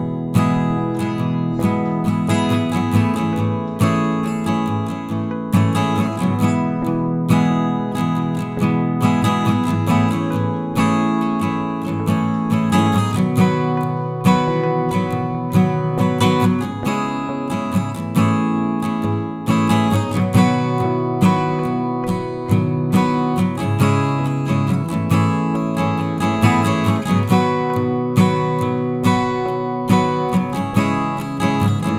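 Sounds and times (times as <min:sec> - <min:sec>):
strummed acoustic guitar: 0:00.0 - 0:31.9.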